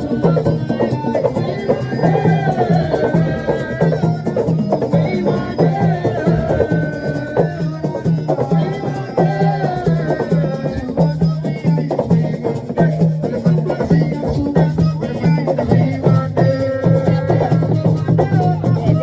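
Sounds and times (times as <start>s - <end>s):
drums playing fast beat: 0.0s - 19.0s
people singing: 0.0s - 19.0s.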